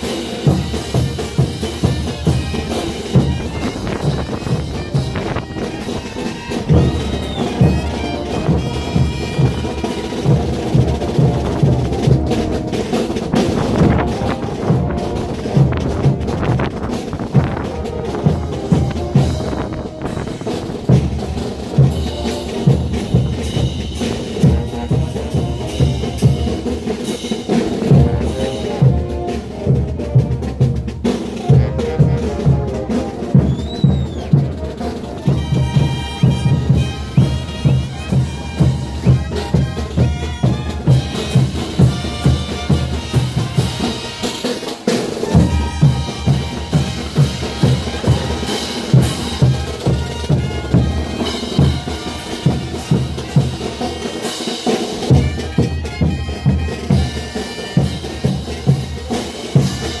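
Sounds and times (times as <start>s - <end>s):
bass drum and snare beat: 0.0s - 60.0s
brass band playing dance music: 0.0s - 60.0s.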